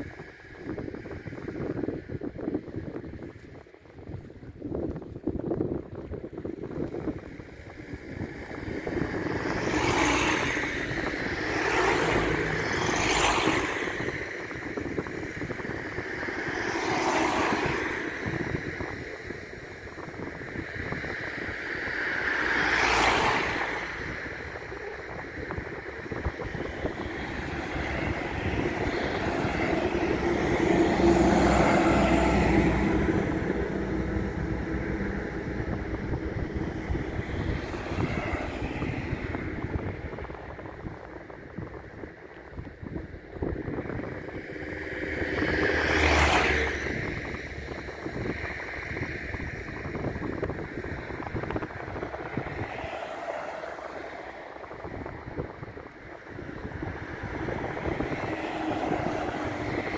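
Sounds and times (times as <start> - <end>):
vehicles passing close by: 0.0 - 59.9
wind buffeting microphone: 0.0 - 59.9.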